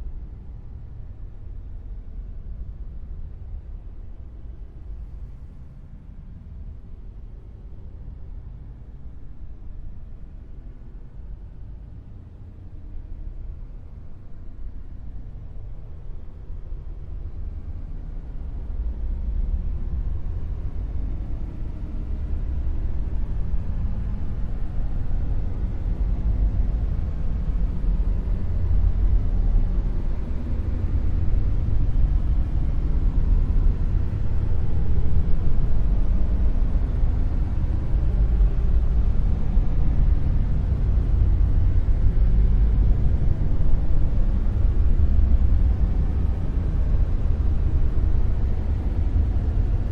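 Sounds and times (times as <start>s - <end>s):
deep low rumble: 0.0s - 49.9s.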